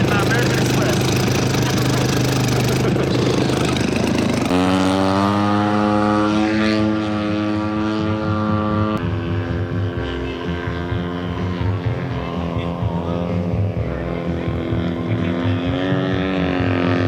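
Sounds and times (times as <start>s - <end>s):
model airplane engine buzzing: 0.0s - 17.0s.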